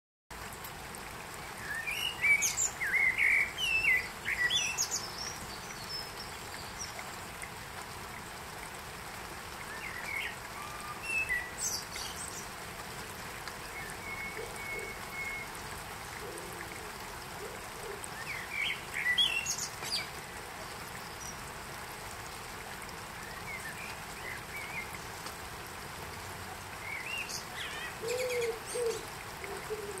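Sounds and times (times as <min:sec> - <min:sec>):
outdoor ambience hiss: 0:00.3 - 0:30.0.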